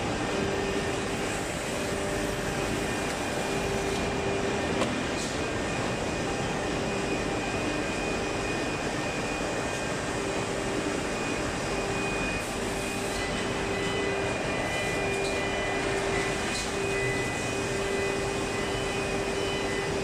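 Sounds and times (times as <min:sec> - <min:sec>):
factory machinery whirring: 0:00.0 - 0:20.0.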